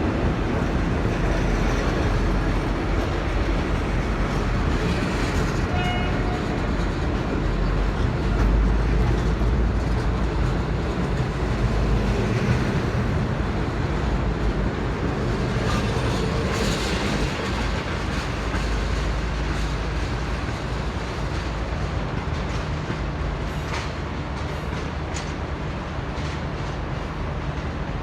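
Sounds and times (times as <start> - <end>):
train rumble: 0.0 - 28.0.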